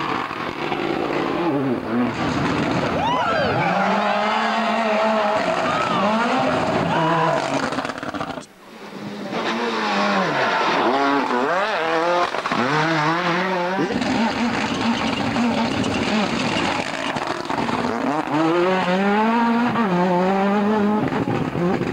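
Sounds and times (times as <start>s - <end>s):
rally cars passing at speed: 0.0s - 21.9s.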